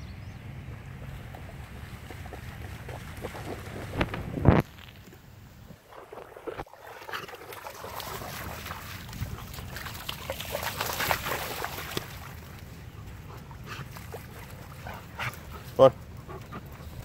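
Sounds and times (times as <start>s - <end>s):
dogs splashing through water: 0.7s - 4.5s, 5.8s - 17.0s.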